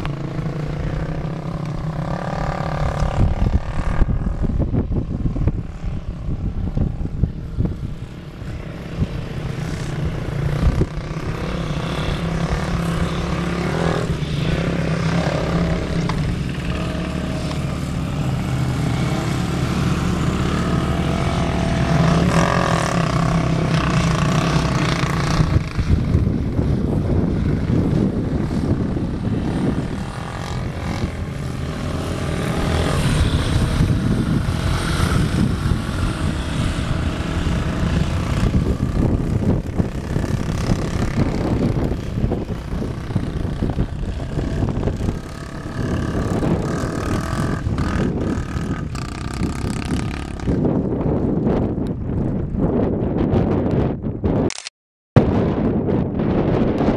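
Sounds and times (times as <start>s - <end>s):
motorcycle engine running: 0.0s - 53.1s.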